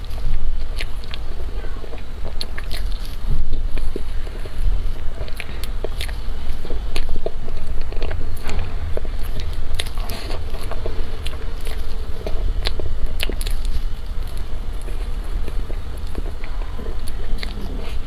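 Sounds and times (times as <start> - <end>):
mouth and lip smacks: 0.0 - 18.0
steady low rumble: 0.0 - 18.0
wet chewing: 0.0 - 18.0.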